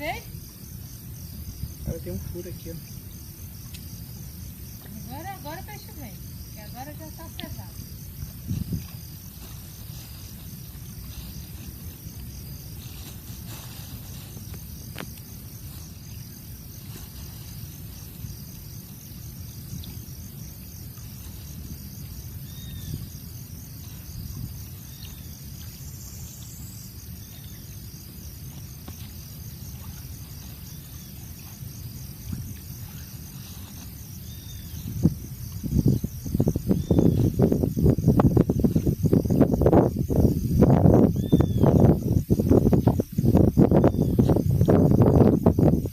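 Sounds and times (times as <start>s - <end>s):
insects chirping in pulsing rhythm: 0.0s - 45.9s.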